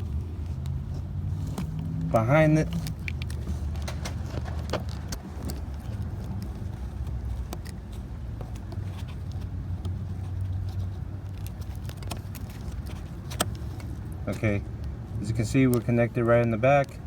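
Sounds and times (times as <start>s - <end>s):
light clicks and taps: 0.4s - 17.0s.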